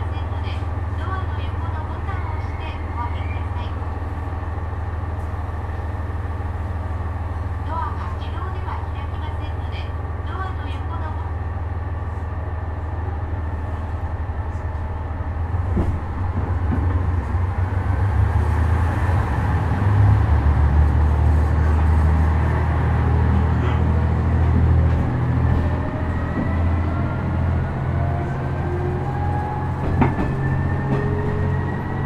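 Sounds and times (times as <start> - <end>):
diesel railcar engine: 0.0 - 32.0.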